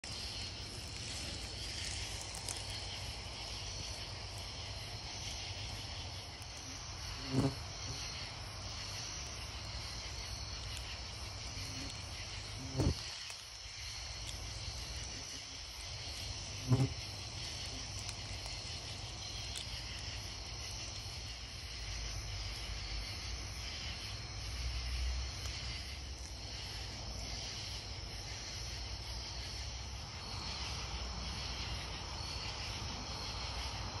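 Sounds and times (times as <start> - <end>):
crickets and insects trilling: 0.0 - 34.0.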